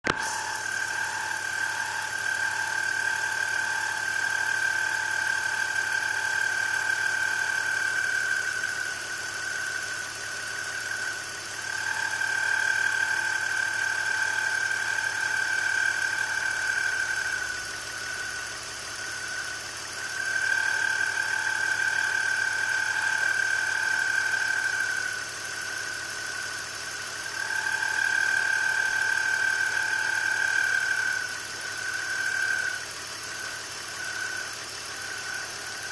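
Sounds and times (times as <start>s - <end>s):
car engine idling: 0.1s - 35.9s
high-pitched belt pulley squeal: 0.1s - 35.9s.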